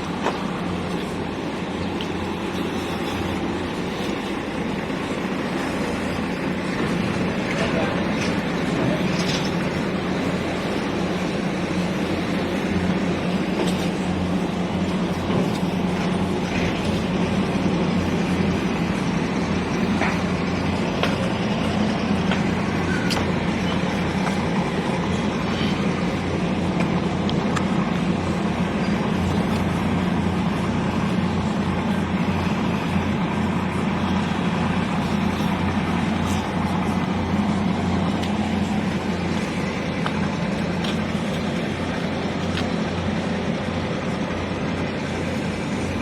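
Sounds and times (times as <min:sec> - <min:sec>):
machine droning: 0:00.0 - 0:46.0.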